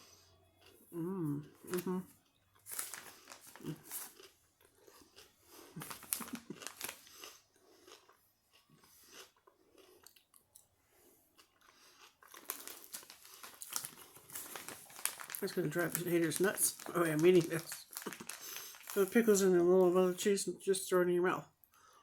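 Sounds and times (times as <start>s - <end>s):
chewing crunchy pickles: 0.0s - 19.3s.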